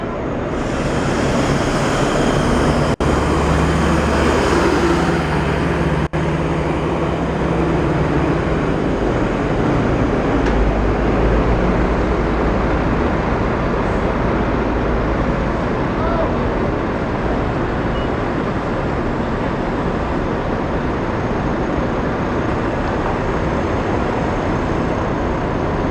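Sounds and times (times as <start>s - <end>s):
coach engine and road noise: 0.0s - 25.9s.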